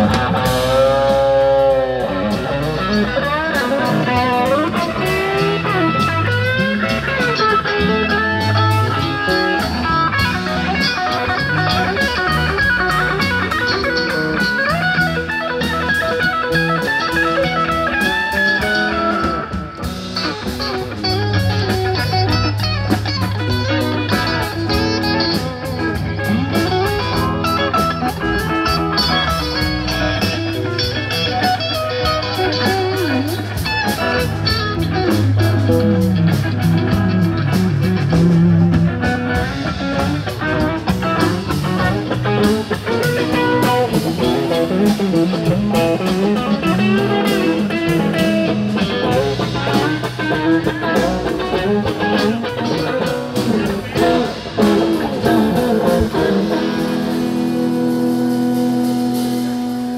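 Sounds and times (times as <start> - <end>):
drums and cymbals: 0.0 - 59.9
electric bass line: 0.0 - 59.9
electric guitar lines: 0.0 - 59.9.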